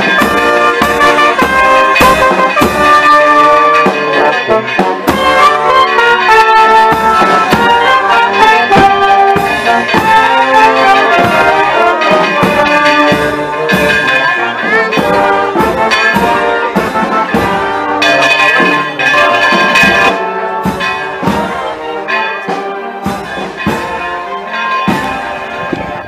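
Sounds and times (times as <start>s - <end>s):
steady drum beat: 0.0s - 24.2s
brass band playing a march: 0.0s - 26.0s.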